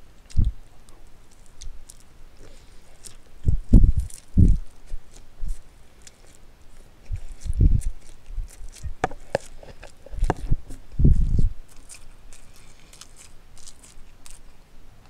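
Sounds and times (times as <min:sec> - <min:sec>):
man chewing and slurping noodles: 0:00.0 - 0:14.5.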